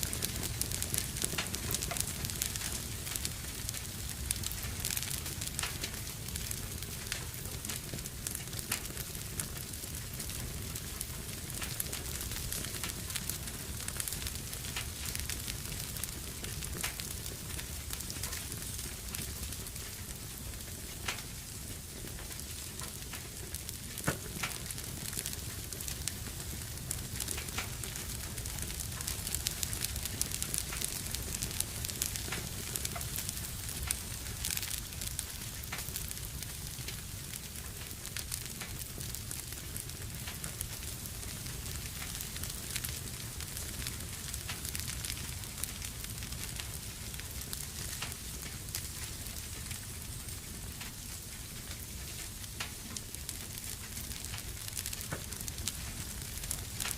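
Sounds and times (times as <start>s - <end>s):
low rumble of flames: 0.0s - 56.9s
wood fire crackling and popping: 0.0s - 56.9s.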